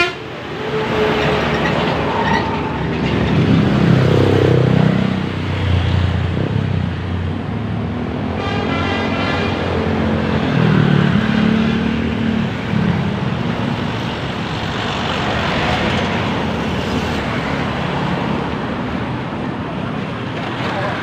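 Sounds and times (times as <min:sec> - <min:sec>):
bus engine drone: 0:00.0 - 0:21.0
traffic noise: 0:00.0 - 0:21.0.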